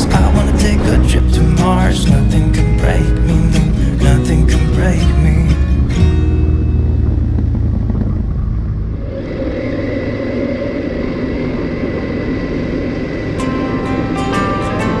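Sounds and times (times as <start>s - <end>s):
wind and road noise: 0.0s - 14.1s
motorcycle engine drone: 0.0s - 15.0s.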